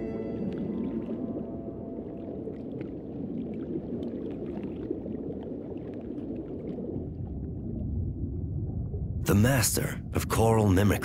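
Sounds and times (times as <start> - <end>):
underwater rumbling wash of water: 0.0 - 10.0.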